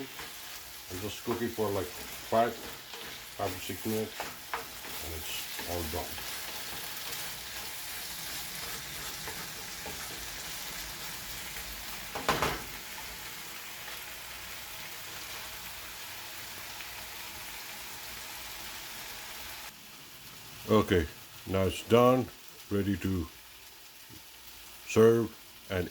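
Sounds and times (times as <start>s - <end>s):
food sizzling in a pan: 0.0s - 25.9s.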